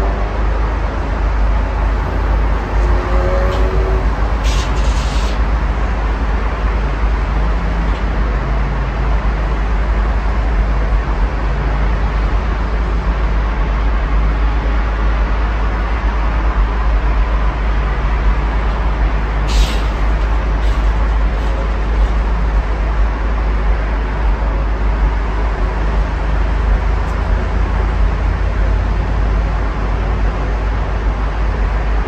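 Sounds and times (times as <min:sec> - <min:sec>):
faint vehicle hum: 0:00.0 - 0:32.0
road traffic rumble: 0:00.0 - 0:32.0.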